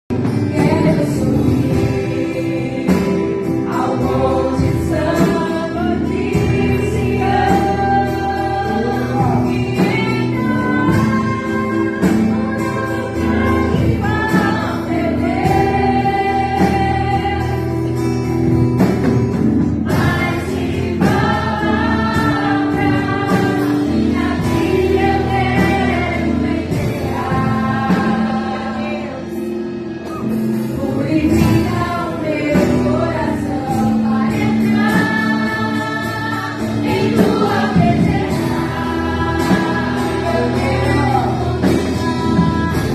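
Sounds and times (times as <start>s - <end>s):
choir singing gospel: 0.1s - 42.9s
instrumental backing: 0.1s - 42.9s.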